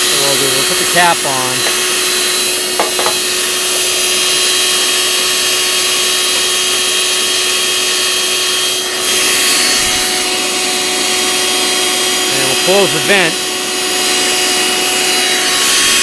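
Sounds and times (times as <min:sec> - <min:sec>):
shop vacuum motor whining: 0:00.0 - 0:16.0.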